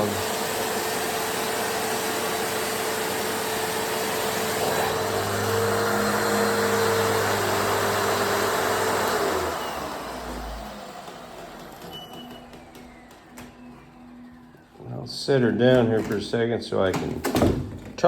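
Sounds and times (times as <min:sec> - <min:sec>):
vacuum cleaner running: 0:00.0 - 0:17.8.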